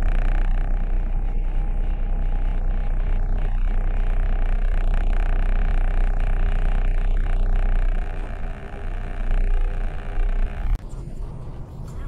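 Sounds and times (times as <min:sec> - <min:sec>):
vehicle engine idling: 0:00.0 - 0:10.8.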